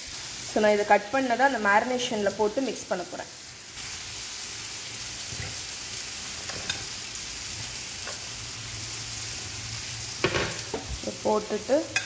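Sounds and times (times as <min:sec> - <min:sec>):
chicken sizzling in grill pan: 0:00.0 - 0:12.0.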